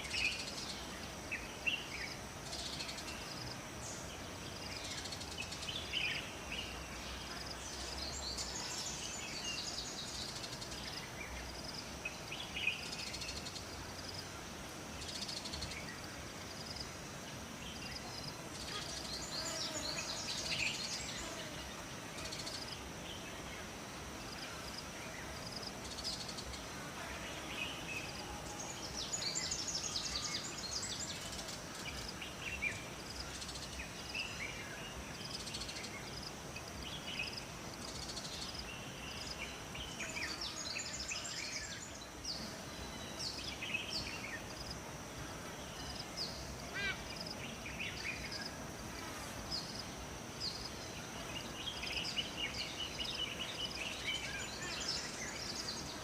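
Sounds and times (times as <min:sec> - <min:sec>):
faint insect drone: 0:00.0 - 0:56.0
songbirds chirping: 0:00.0 - 0:56.0
steady background hiss: 0:00.0 - 0:56.0.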